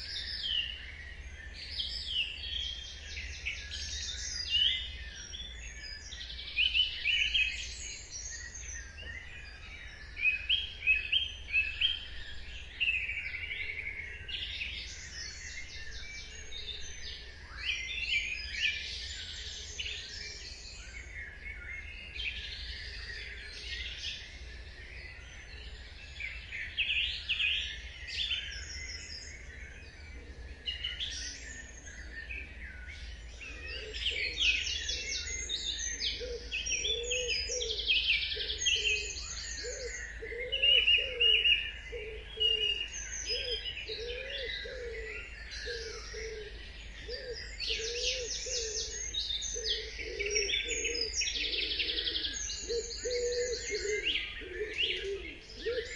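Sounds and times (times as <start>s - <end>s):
songbirds chirping: 0.0s - 55.9s
low bird call: 3.0s - 55.9s.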